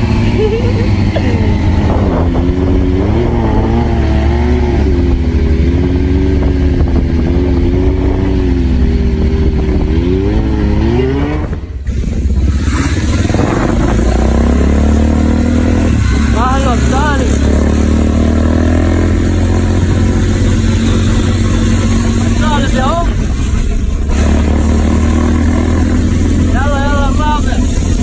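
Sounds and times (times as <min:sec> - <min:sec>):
another motorcycle engine: 0:00.0 - 0:28.0
motorcycle engine at steady revs: 0:00.0 - 0:28.0.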